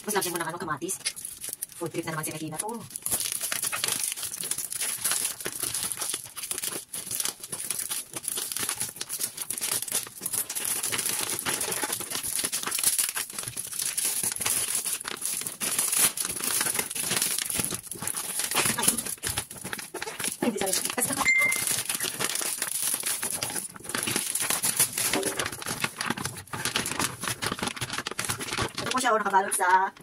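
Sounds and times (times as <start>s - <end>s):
plastic packaging crinkling: 0.0s - 30.0s
plastic tearing: 0.0s - 30.0s.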